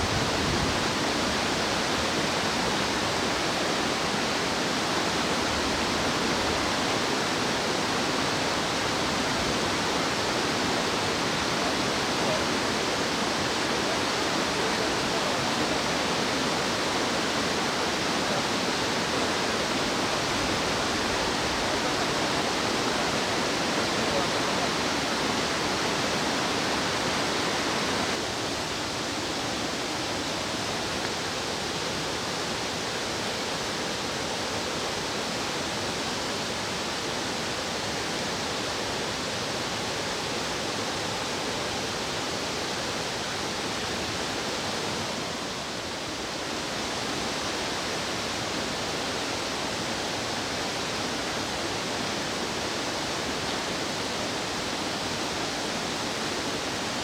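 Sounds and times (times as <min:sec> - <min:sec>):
fast-flowing stream rushing: 0:00.0 - 0:57.0.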